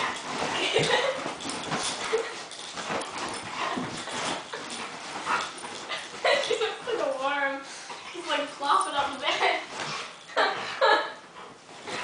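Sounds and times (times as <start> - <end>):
scuffling on bedding: 0.0 - 10.2
dog play noises: 0.0 - 12.0.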